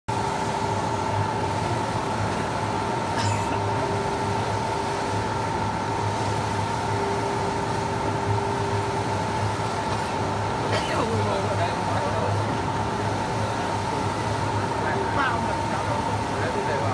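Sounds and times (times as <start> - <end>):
printer motors humming: 0.1 - 16.9.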